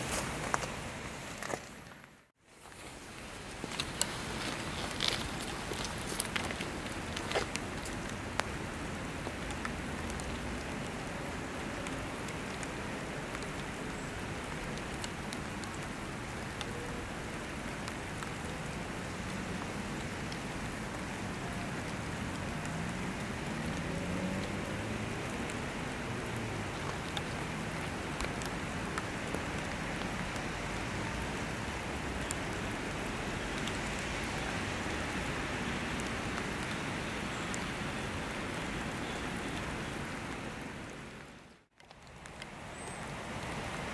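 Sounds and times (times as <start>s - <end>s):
rain on wet tarmac: 0.0s - 43.9s.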